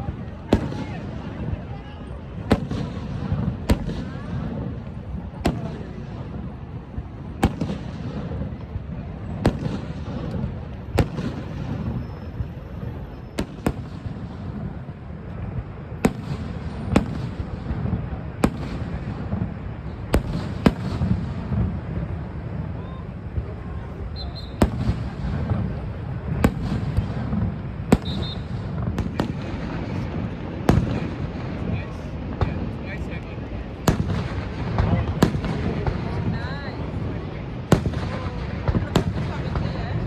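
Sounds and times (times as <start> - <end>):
fireworks bangs: 0.0 - 40.0.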